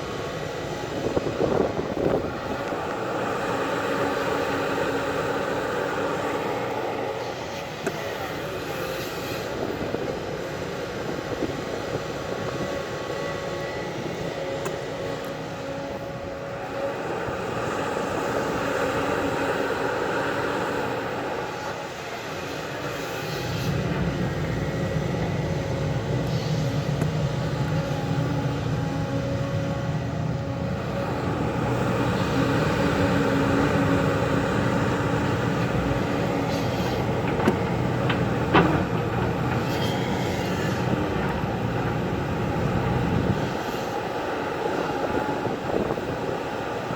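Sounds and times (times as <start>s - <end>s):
diesel engine running: 0.0s - 46.9s
heavy low engine rumble: 0.0s - 46.9s.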